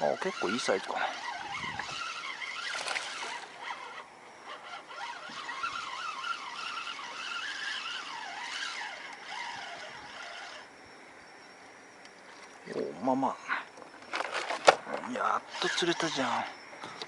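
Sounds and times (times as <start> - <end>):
fishing reel whirring squeal: 0.0 - 17.0.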